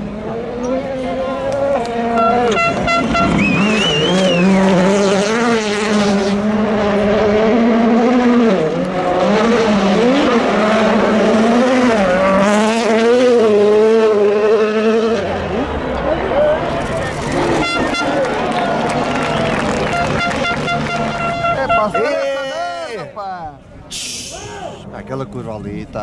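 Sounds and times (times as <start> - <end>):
rally car engine at full throttle: 0.0 - 23.1.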